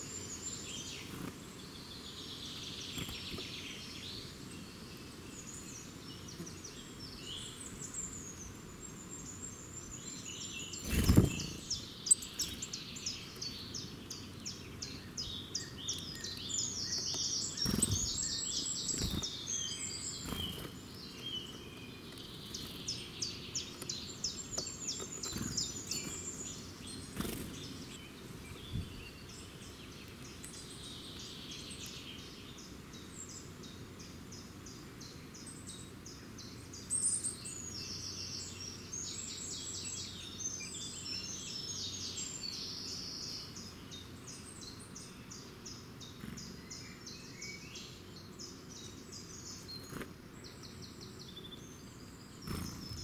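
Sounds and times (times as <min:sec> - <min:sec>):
birds chirping and singing: 0:00.0 - 0:53.0.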